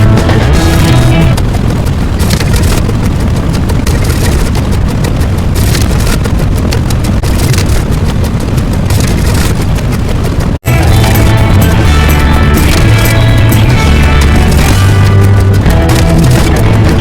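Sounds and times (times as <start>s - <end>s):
loud bassy rumbling: 0.0s - 17.0s.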